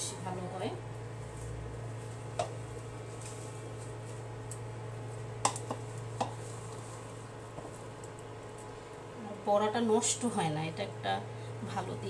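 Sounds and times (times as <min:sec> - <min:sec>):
electric stove humming: 0:00.0 - 0:12.0.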